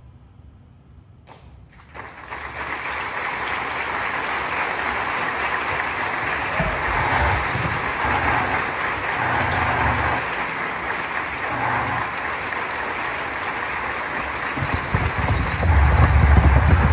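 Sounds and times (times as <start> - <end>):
audience applauding: 1.7 - 16.9.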